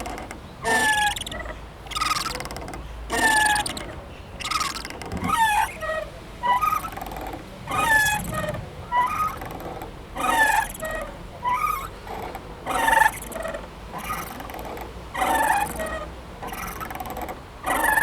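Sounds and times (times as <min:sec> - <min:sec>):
playground swing squeaking: 0:00.0 - 0:18.0.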